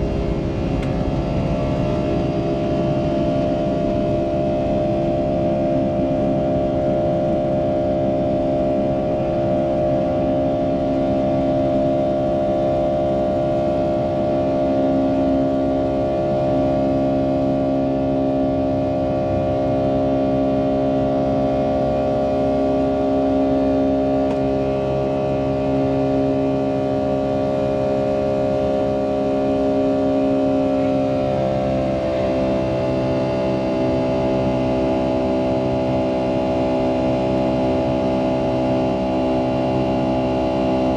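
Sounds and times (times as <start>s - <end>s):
jet engines heard in cabin: 0.0s - 40.9s.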